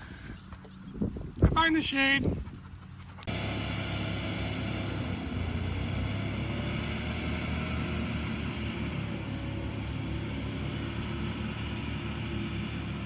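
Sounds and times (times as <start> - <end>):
excavator diesel engine running: 2.2 - 13.0.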